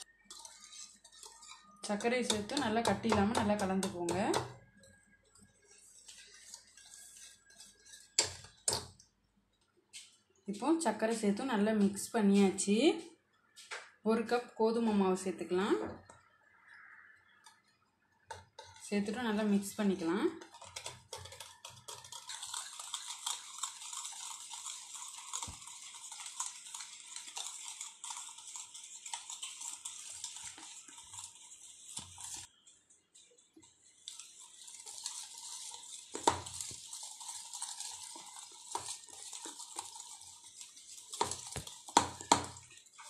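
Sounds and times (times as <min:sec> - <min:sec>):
wire whisk beating batter in bowl: 0:00.0 - 0:09.1, 0:16.1 - 0:43.0.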